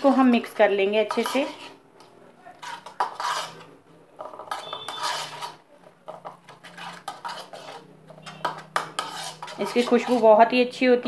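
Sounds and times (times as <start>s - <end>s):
metal spoon stirring in a bowl: 0.0s - 1.8s, 2.5s - 10.8s.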